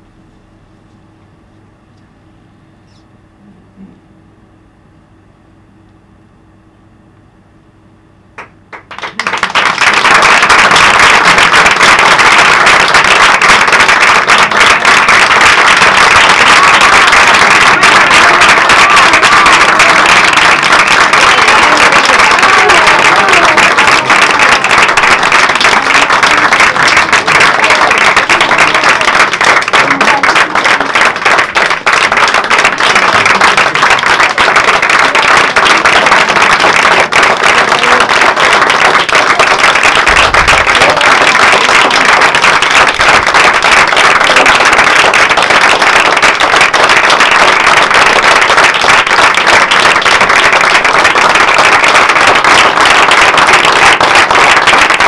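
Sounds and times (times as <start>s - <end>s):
audience applauding: 8.4s - 55.0s.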